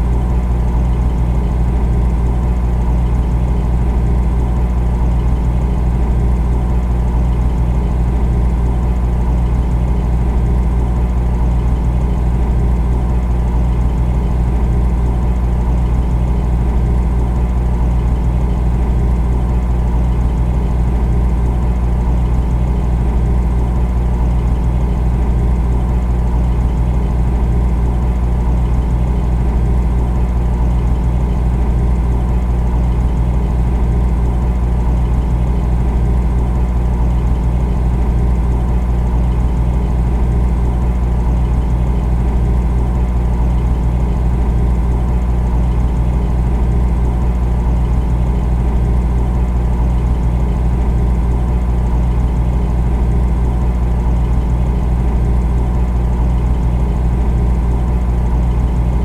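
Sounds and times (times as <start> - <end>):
refrigerator compressor humming: 0.0 - 59.0.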